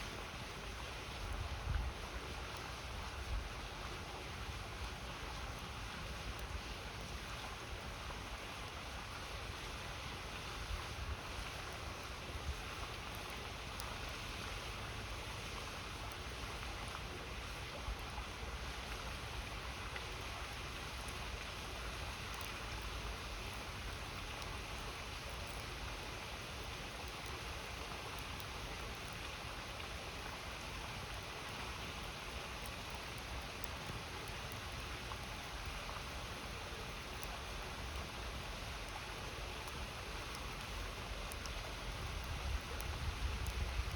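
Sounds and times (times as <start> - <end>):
campfire crackles: 0.0 - 43.9.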